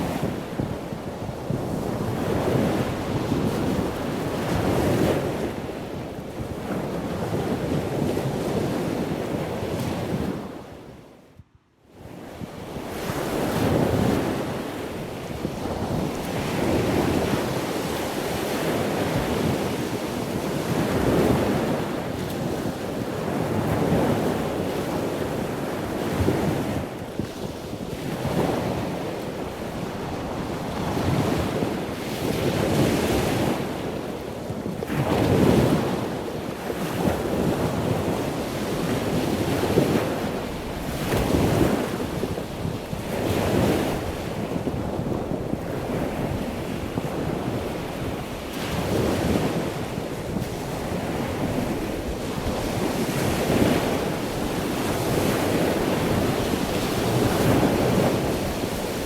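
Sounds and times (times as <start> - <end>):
ocean waves washing ashore: 0.0 - 11.0, 12.5 - 59.0.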